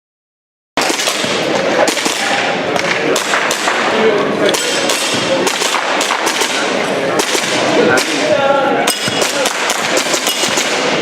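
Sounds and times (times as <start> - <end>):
airsoft gun firing: 0.8 - 8.3, 8.9 - 11.0
pellets striking metal targets: 0.8 - 11.0.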